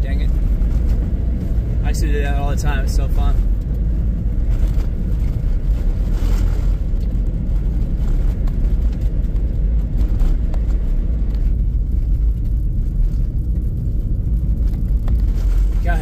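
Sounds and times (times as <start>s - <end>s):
car interior road and engine rumble: 0.0s - 16.0s.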